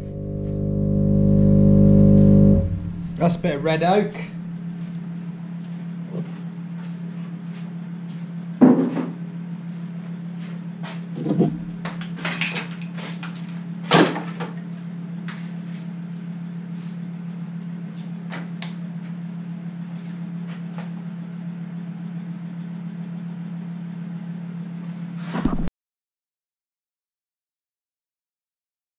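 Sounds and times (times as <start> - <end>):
workshop machinery humming: 0.0 - 25.7.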